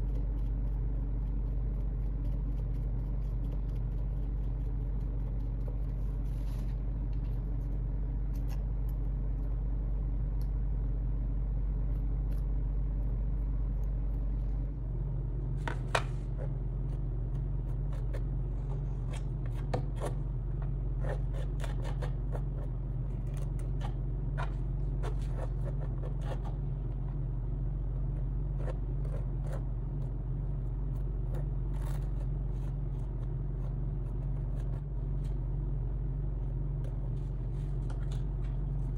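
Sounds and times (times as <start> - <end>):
low background hum: 0.0 - 38.9.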